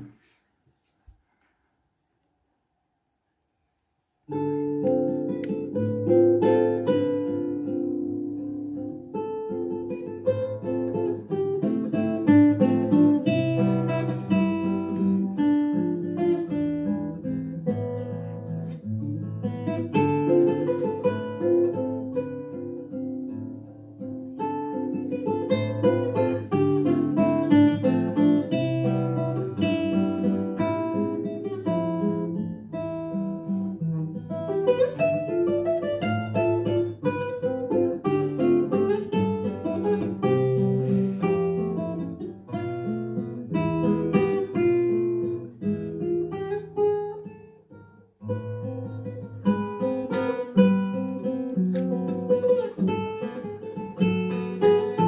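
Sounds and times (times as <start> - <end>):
classical guitar fingerstyle waltz: 0.0 - 0.4, 4.3 - 55.0.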